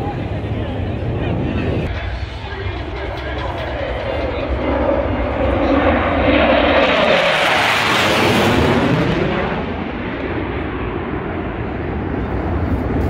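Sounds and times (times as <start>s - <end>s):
fighter jets passing overhead: 0.0s - 13.0s.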